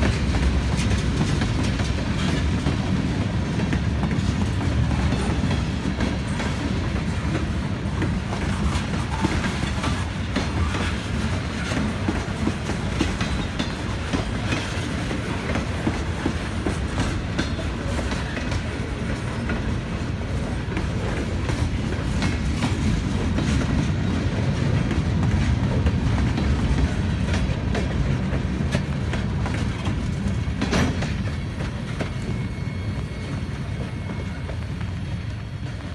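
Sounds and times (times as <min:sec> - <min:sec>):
clickety-clack over rail joints: 0:00.0 - 0:35.9
train wheels rumbling on rails: 0:00.0 - 0:35.9.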